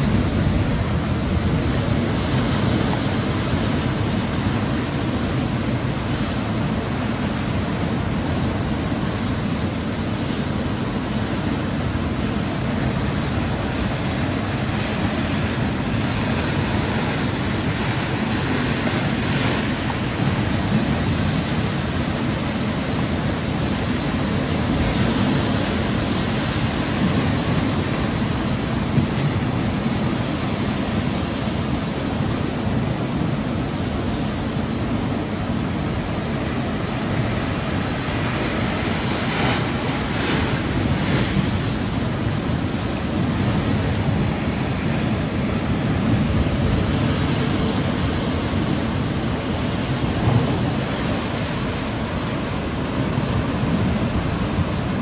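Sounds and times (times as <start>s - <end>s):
surf washing against rocks: 0.0s - 55.0s
wind over microphone: 0.0s - 55.0s.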